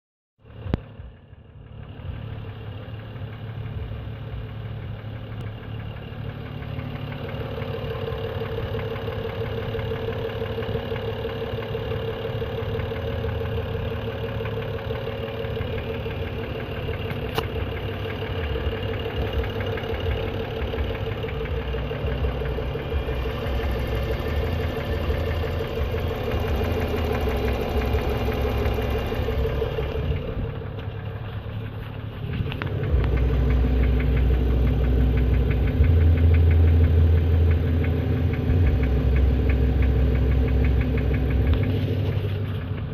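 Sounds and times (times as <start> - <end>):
car engine idling: 0.4 - 42.9
fast steady engine clicking: 0.4 - 42.9.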